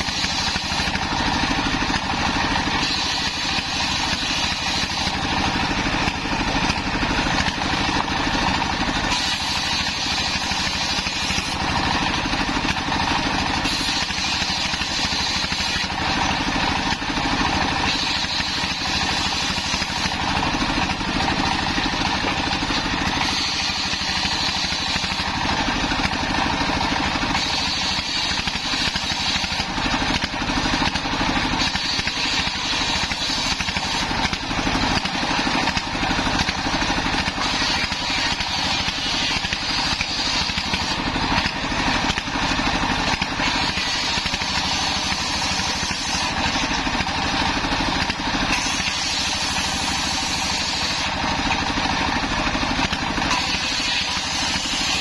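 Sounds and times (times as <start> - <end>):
circular saw blade whine: 0.0 - 55.0
diesel engine running: 0.0 - 55.0.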